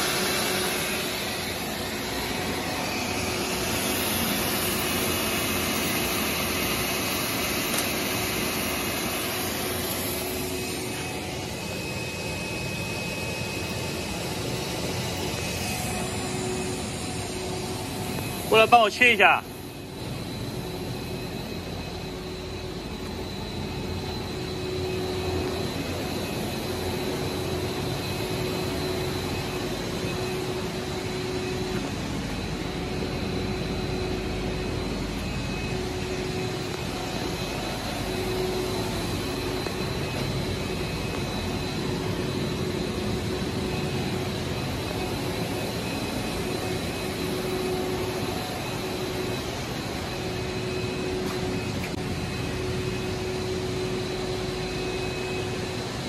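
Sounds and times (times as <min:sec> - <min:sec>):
constant high whine: 0:00.0 - 0:56.0
lower machine tone: 0:00.0 - 0:56.0
machine hum: 0:00.0 - 0:56.0.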